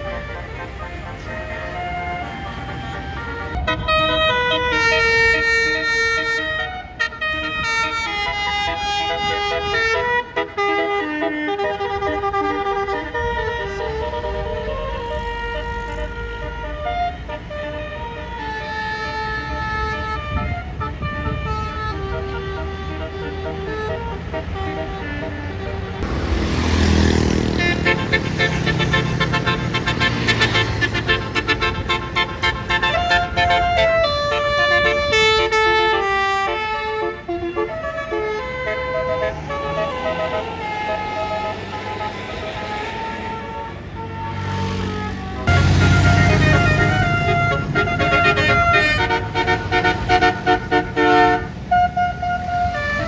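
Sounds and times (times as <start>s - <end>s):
low vehicle rumble: 0.0s - 35.7s, 45.2s - 53.0s
bus air horn playing melody: 0.0s - 53.0s.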